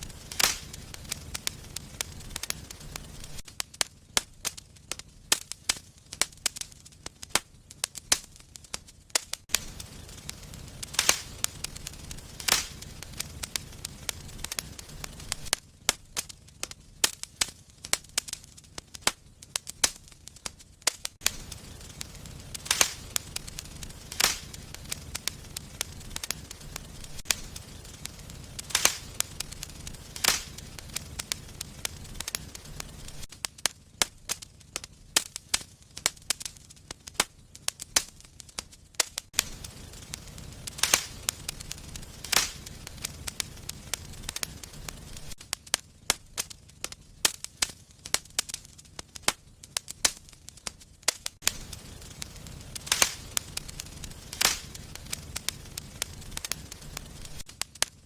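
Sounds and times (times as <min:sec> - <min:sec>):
fire crackling in fireplace: 0:00.0 - 0:58.0
low rumble of flames: 0:00.0 - 0:58.0
sharp fire pops: 0:00.0 - 0:58.0.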